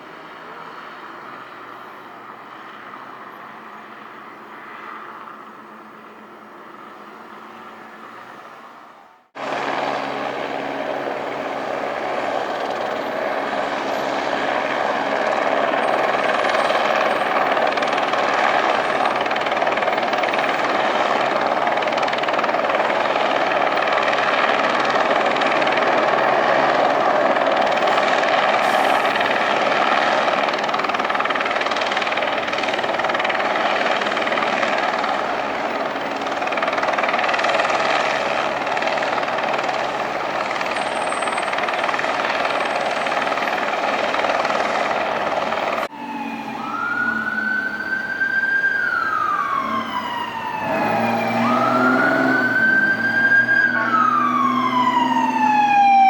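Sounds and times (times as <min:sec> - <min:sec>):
engine drone: 0:09.3 - 0:56.0.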